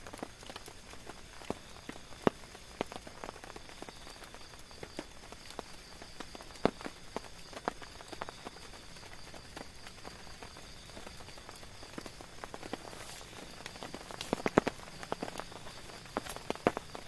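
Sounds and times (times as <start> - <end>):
raindrops tapping on tent fabric: 0.0 - 17.0
steady hiss of rain: 0.0 - 17.0.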